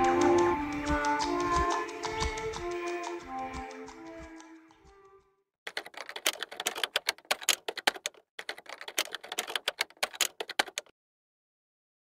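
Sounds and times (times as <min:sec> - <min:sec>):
keyboard typing clicks: 0:00.0 - 0:04.9, 0:05.7 - 0:10.9.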